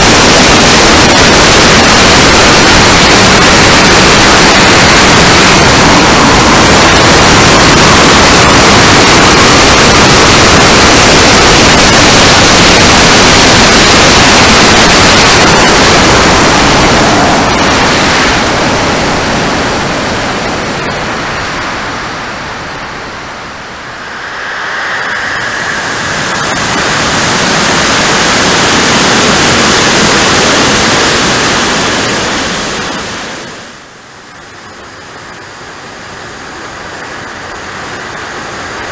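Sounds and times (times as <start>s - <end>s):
jet turbine and rushing air: 0.0s - 33.9s.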